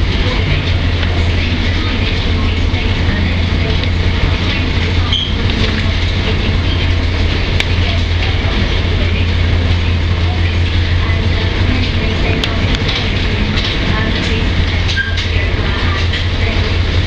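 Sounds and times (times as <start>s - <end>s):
constant rushing noise: 0.0s - 17.0s
low engine drone: 0.0s - 17.0s.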